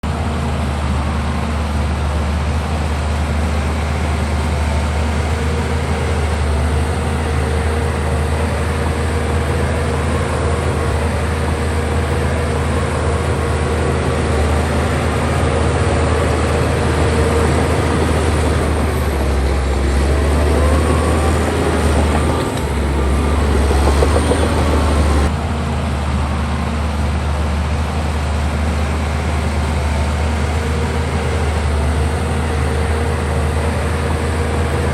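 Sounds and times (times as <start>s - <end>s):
bulldozer diesel engine running: 0.0s - 34.9s
higher-pitched engine tones: 0.0s - 34.9s.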